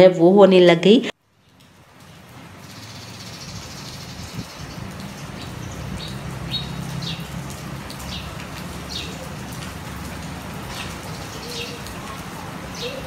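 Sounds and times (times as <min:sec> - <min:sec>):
rain on stone paving: 0:01.1 - 0:13.0.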